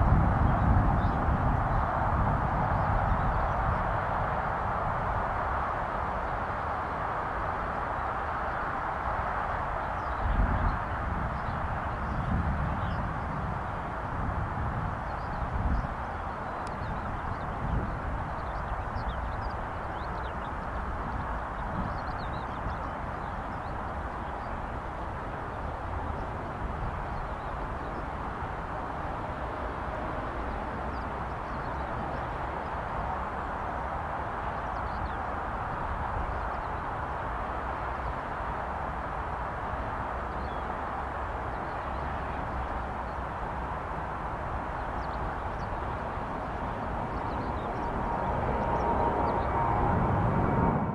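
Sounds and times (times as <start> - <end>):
distant jet engines rumbling: 0.0 - 50.9.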